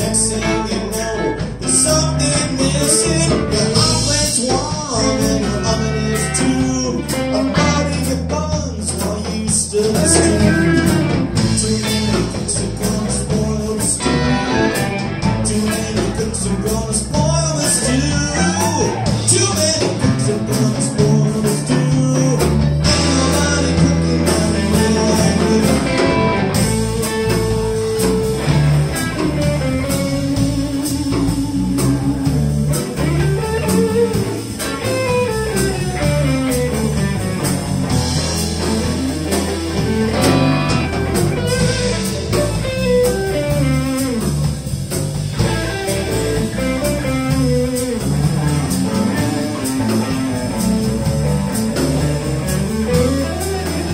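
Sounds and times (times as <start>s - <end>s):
electric guitar lead bending notes: 0.0s - 9.1s, 9.7s - 53.9s
bass guitar: 0.0s - 53.9s
drums: 0.0s - 53.9s.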